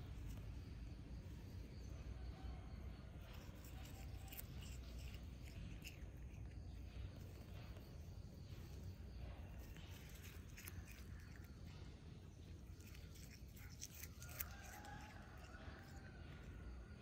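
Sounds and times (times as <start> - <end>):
cat chewing grass: 0.0 - 17.0.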